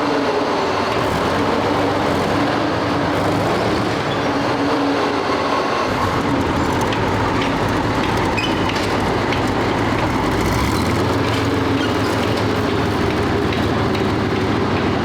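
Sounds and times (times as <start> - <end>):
vehicle low rumble: 0.9 - 15.0.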